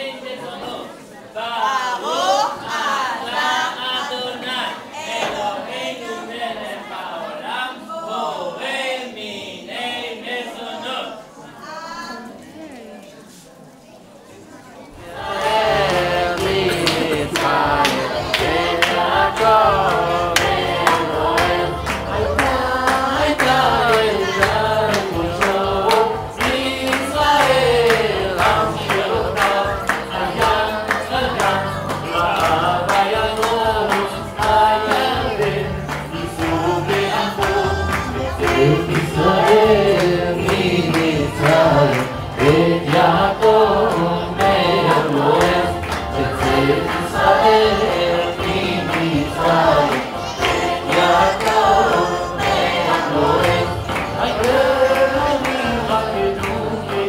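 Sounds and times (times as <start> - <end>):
group singing: 0.0 - 11.4, 14.9 - 57.0.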